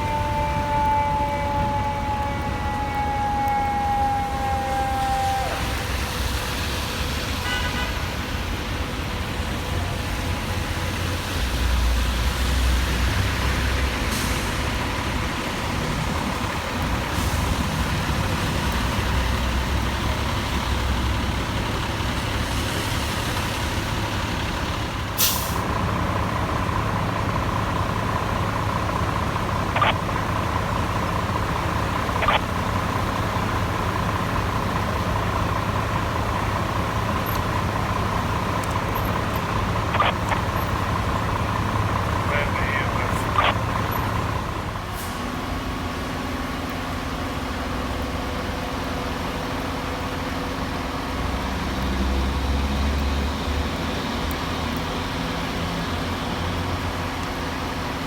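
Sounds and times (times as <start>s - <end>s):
diesel engine rumble: 0.0s - 58.0s.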